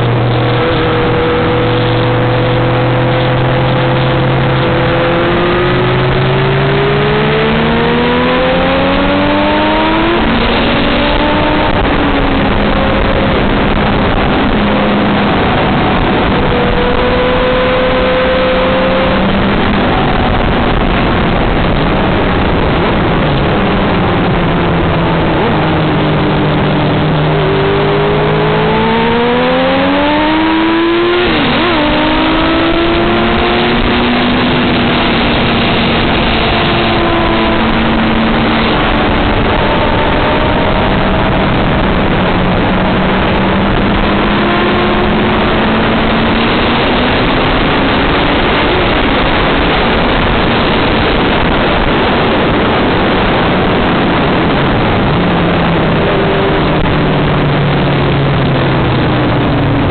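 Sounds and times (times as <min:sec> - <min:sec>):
motorcycle engine accelerating: 0:00.0 - 0:59.9
wind noise on microphone: 0:00.0 - 0:59.9.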